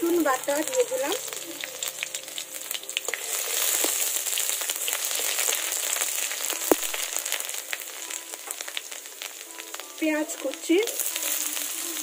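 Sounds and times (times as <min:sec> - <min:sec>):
garlic paste sizzling in oil: 0:00.0 - 0:12.0.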